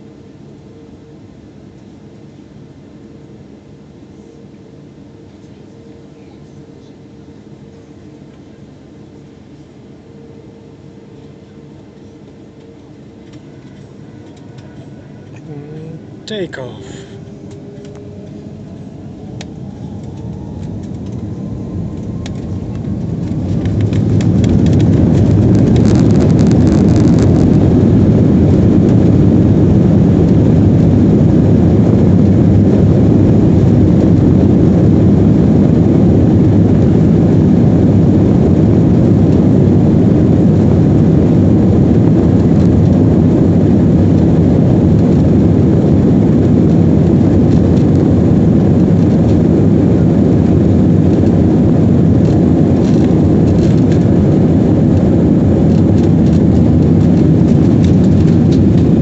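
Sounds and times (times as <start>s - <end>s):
jet engines roaring inside cabin: 0.0s - 59.0s.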